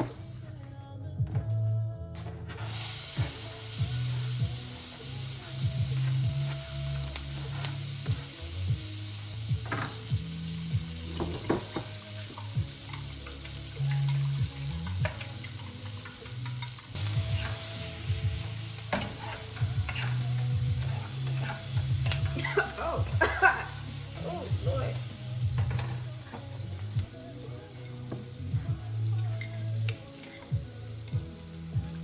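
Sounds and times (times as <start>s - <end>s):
oil sizzling in a pan: 2.6s - 32.0s.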